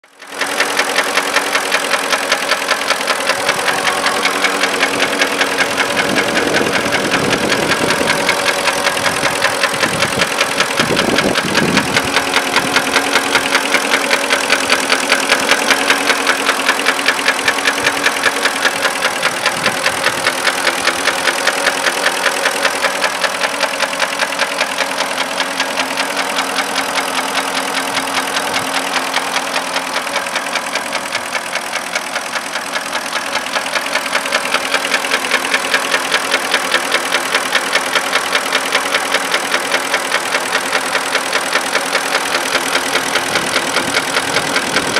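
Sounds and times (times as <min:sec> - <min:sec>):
engine idling with regular knock: 0:00.0 - 0:44.9.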